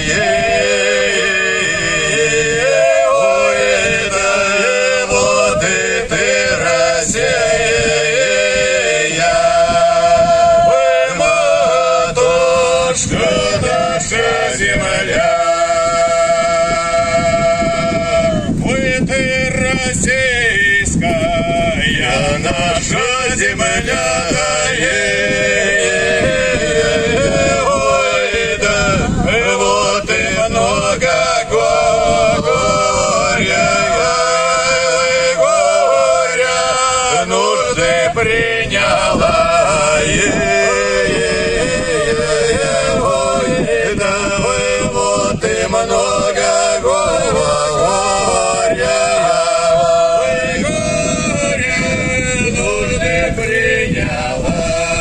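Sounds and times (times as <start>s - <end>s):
men singing a song: 0.0s - 55.0s.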